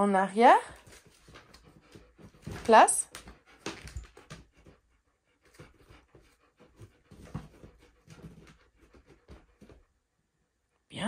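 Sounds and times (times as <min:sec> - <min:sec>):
dog panting: 0:00.8 - 0:10.9.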